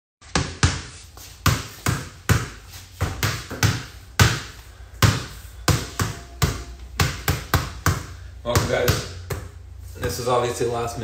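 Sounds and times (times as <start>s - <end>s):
ball bouncing on concrete: 0.2s - 10.2s.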